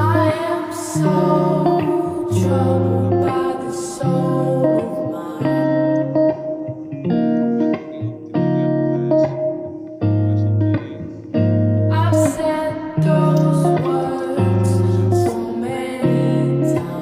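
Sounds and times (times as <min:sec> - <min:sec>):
pop song with guitar and keyboard: 0:00.0 - 0:17.0.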